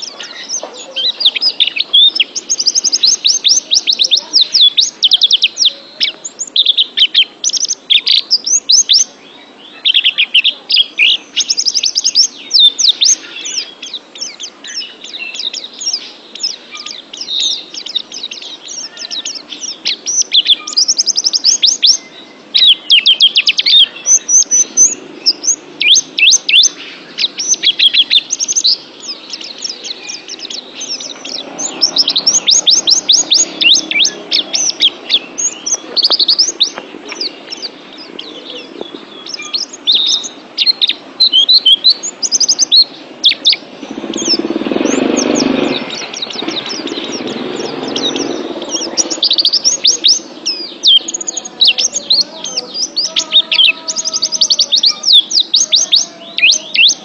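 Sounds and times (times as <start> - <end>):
bird twittering song: 0.0 - 57.0.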